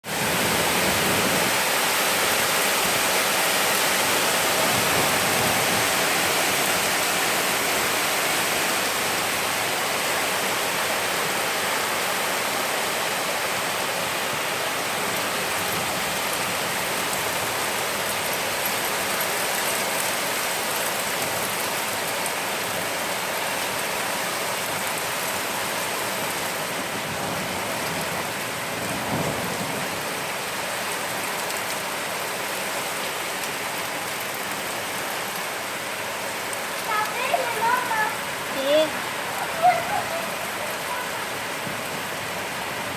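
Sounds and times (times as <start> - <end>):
hail and rain pelting down: 0.0 - 42.9.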